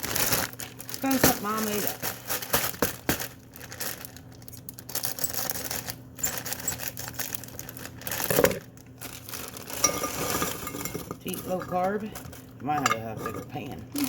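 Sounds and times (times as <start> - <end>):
plastic packaging crinkling: 0.0 - 12.6
faint steady hum: 0.0 - 14.0.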